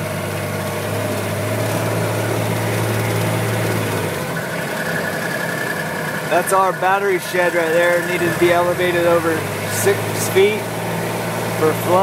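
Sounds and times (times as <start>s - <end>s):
engine humming: 0.0s - 12.0s
steady high whine: 1.9s - 12.0s.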